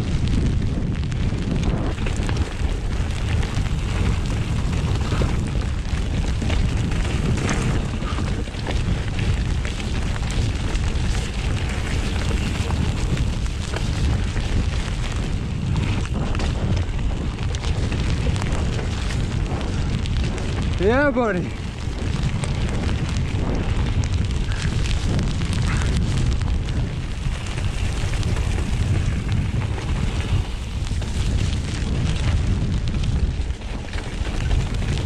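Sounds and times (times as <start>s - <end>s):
bike clattering over rough ground: 0.0s - 35.0s
bike tyre noise: 0.0s - 35.0s
wind rumble on microphone: 0.0s - 35.0s.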